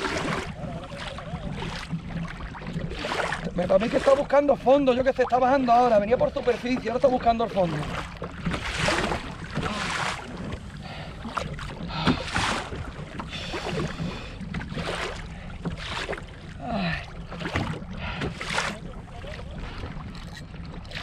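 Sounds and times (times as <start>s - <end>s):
water splashing against kayak hull: 0.0s - 21.0s.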